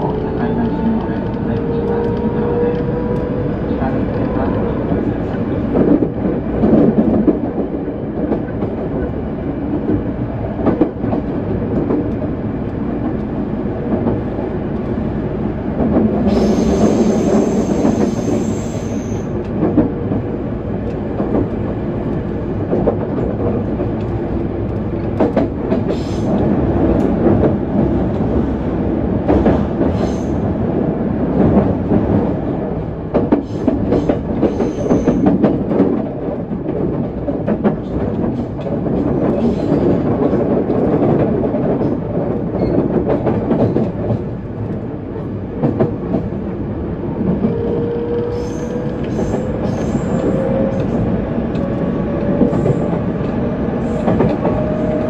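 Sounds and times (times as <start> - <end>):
train running gear rumble: 0.0 - 55.0.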